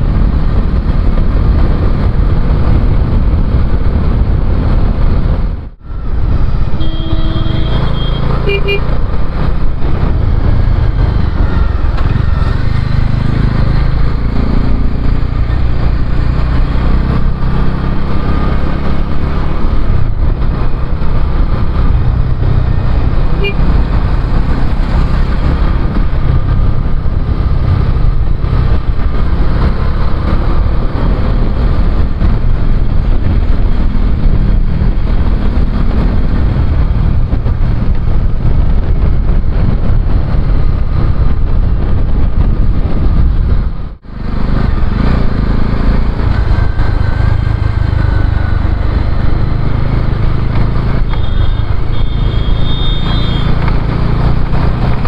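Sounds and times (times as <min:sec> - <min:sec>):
motorcycle engine: 0:00.0 - 0:55.0
road noise: 0:00.0 - 0:55.0.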